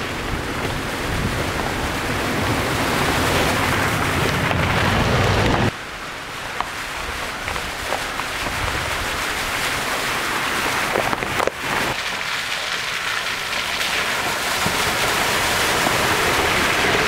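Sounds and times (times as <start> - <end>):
engine running low: 0.0 - 17.0
tyres splashing through muddy puddle: 0.0 - 17.0.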